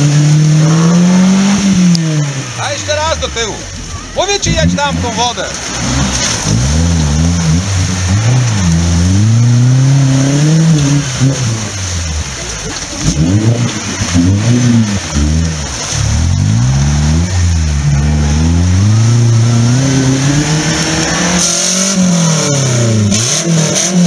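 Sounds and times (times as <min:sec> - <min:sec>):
engine revving hard: 0:00.0 - 0:03.6, 0:04.4 - 0:24.0.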